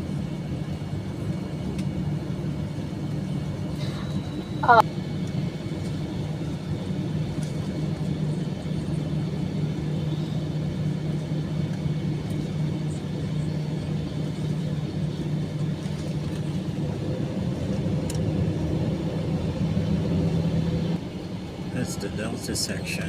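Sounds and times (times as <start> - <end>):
aircraft cabin drone: 0.0 - 23.0.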